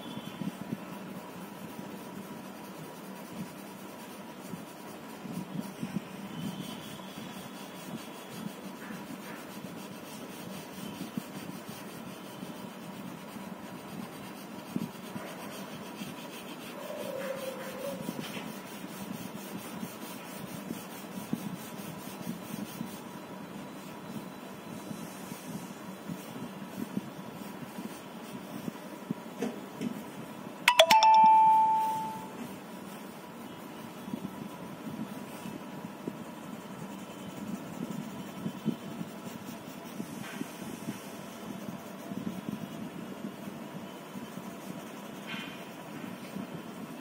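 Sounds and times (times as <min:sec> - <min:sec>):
steady background hum: 0:00.0 - 0:47.0
pencil scratching on paper: 0:00.5 - 0:29.2, 0:31.6 - 0:47.0.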